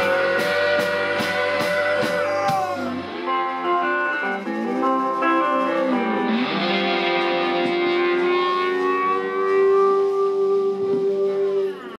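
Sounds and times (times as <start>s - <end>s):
live rock band guitars and bass: 0.0s - 12.0s.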